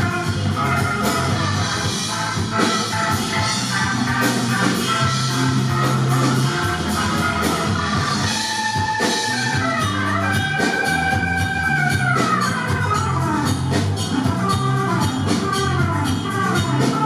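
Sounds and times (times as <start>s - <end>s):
bass: 0.0s - 17.0s
drums: 0.0s - 17.0s.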